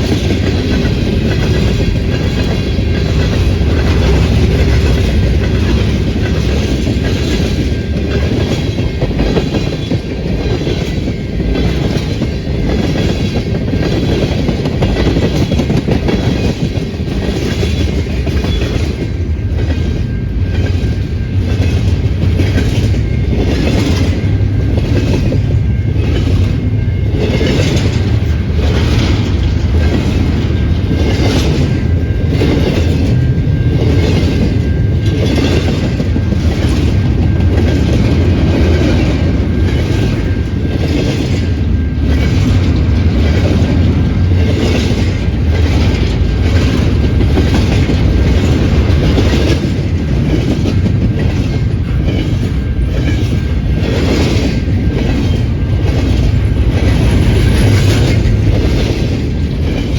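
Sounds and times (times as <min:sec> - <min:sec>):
train rumbling past: 0:00.0 - 0:59.9.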